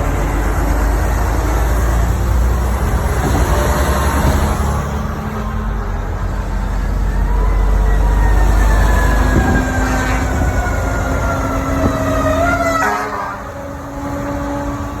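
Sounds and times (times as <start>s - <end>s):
emergency vehicle siren: 0.0s - 15.0s
traffic rumble: 0.0s - 15.0s.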